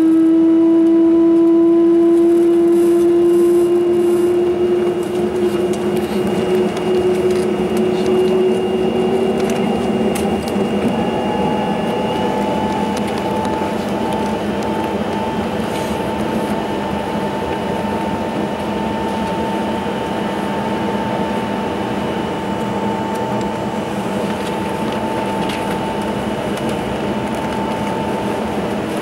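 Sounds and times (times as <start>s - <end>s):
dense hum: 0.0s - 29.0s
high engine tone: 0.0s - 29.0s
jet engine spooling up: 0.0s - 29.0s.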